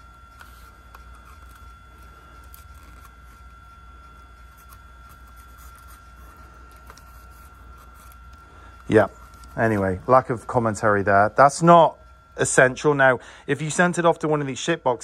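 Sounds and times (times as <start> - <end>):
paper towel rubbing plastic: 0.0 - 12.9
low hum: 0.0 - 15.0
thin high whine: 0.0 - 15.0.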